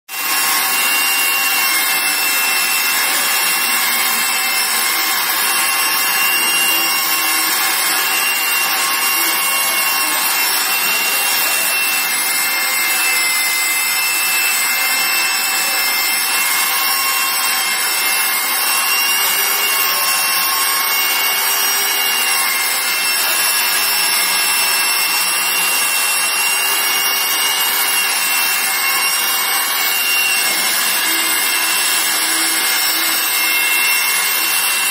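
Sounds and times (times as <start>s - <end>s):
angle grinder motor whine: 0.1s - 34.9s.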